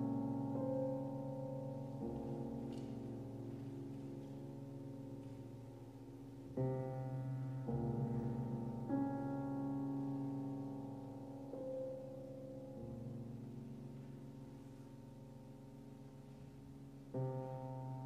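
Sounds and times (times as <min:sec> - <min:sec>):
grand piano soft chords: 0:00.0 - 0:18.0.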